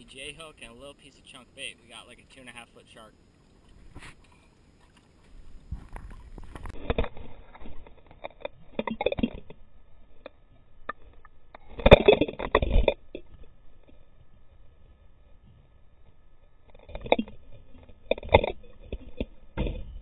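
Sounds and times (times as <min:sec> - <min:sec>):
muffled water sloshing underwater: 0:03.1 - 0:20.0.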